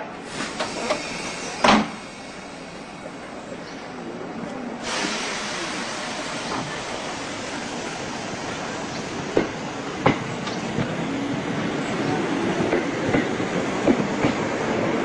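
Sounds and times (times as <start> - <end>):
train pulling away: 0.0 - 15.0.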